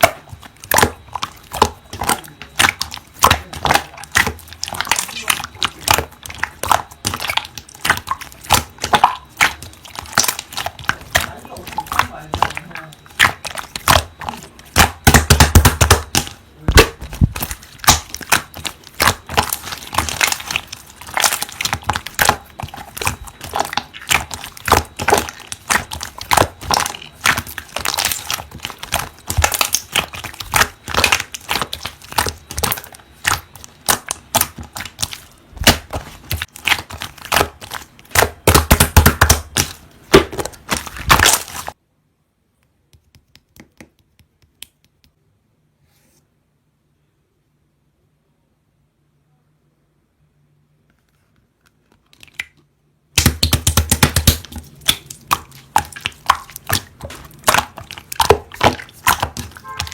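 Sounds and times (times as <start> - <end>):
slime squeezed by hand crackling: 0.0 - 41.8, 52.2 - 59.9.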